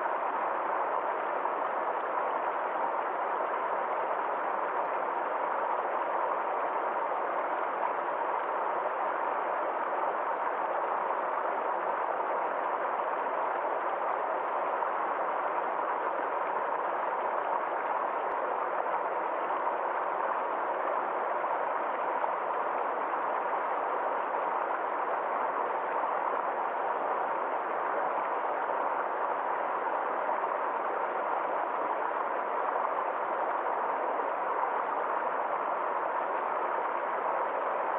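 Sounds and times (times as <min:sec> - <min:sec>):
stream flowing: 0:00.0 - 0:37.9.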